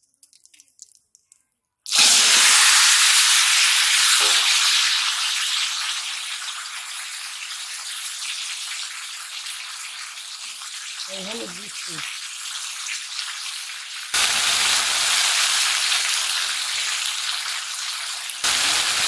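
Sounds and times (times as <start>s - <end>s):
vegetables frying in hot oil: 1.9s - 19.0s.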